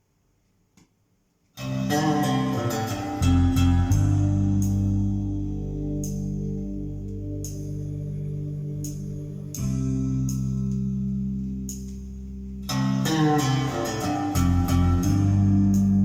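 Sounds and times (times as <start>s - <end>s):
deep bass: 1.8s - 16.0s
music through speakers: 2.0s - 16.0s.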